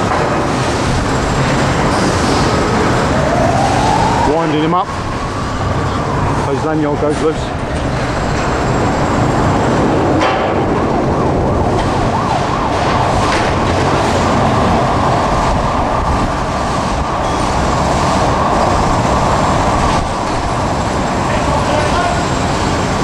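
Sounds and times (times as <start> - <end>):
traffic rumble: 0.0 - 23.0
siren wailing: 2.4 - 7.6, 8.6 - 22.5.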